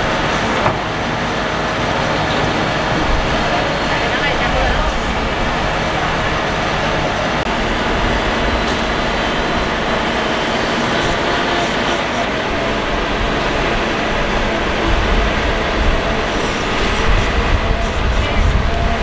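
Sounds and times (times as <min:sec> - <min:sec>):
deep engine rumble surging: 0:00.0 - 0:19.0
heavy diesel machinery running: 0:00.0 - 0:19.0.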